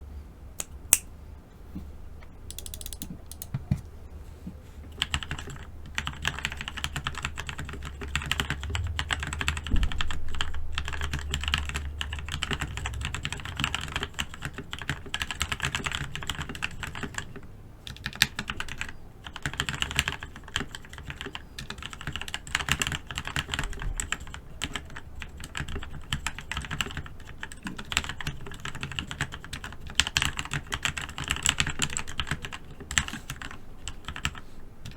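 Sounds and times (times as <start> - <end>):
mechanical keyboard typing: 2.5 - 3.9, 5.0 - 34.9.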